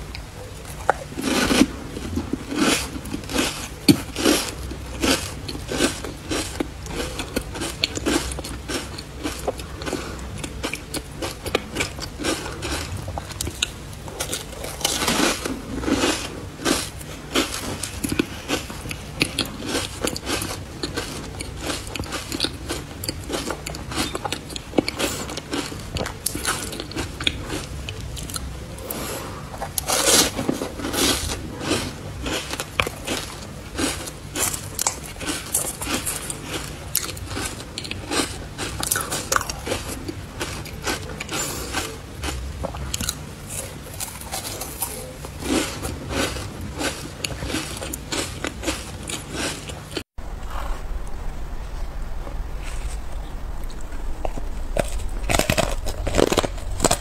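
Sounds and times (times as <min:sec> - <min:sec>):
crunching and chewing ice: 0:00.0 - 0:51.5, 0:52.8 - 0:57.0.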